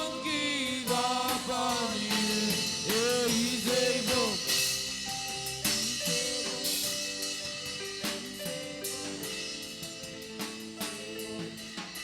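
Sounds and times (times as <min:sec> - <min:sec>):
worship band playing: 0:00.0 - 0:12.0.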